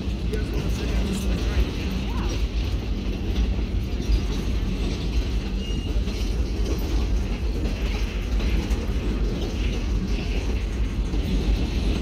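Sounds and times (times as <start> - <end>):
clicks and rattles from rail car: 0.0 - 12.0
rail car rumbling on track: 0.0 - 12.0.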